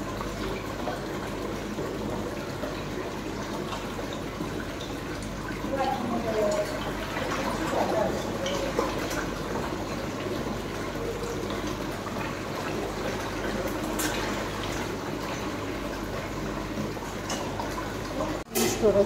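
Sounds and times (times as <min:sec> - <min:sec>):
water splashing and churning: 0:00.0 - 0:19.0.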